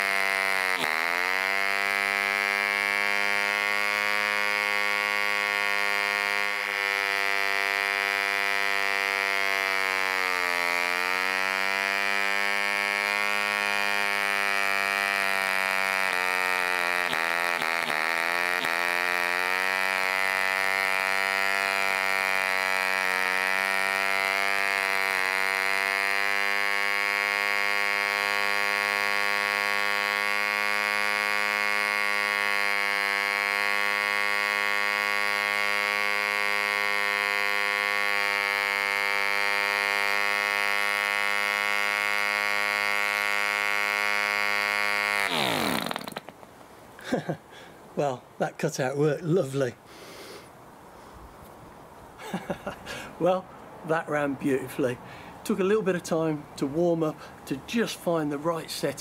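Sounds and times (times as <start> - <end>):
model engine running: 0.0 - 48.2.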